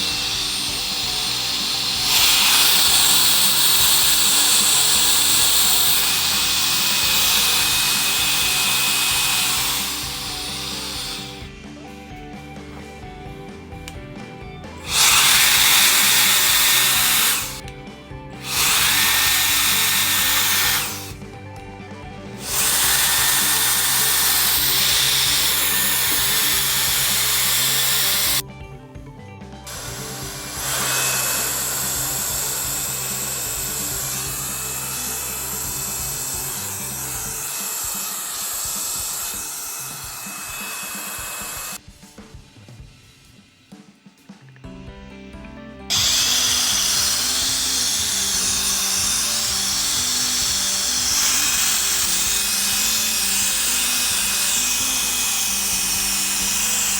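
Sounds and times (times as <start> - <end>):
mini blower fan rushing: 0.0 - 17.8, 18.4 - 28.4, 29.6 - 43.9, 45.9 - 56.9.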